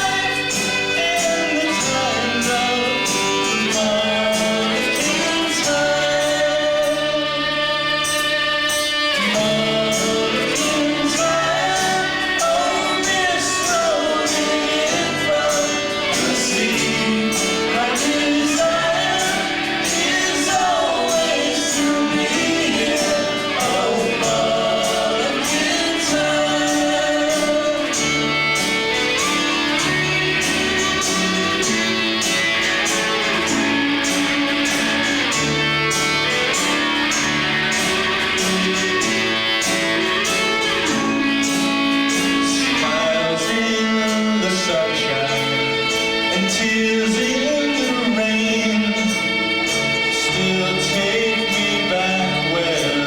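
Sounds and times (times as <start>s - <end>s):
person singing: 0.0s - 53.0s
rock band playing a ballad: 0.0s - 53.0s.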